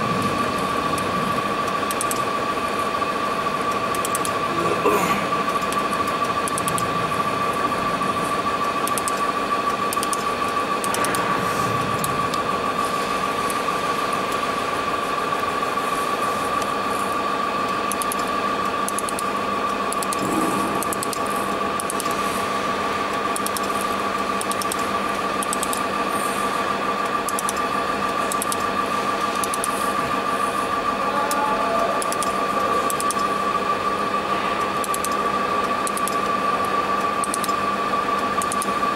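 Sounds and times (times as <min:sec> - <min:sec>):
laser welding machine drone: 0:00.0 - 0:38.9.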